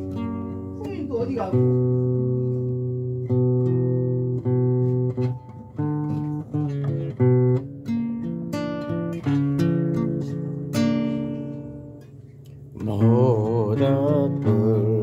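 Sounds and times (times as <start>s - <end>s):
guitar plucked chords: 0.0s - 15.0s.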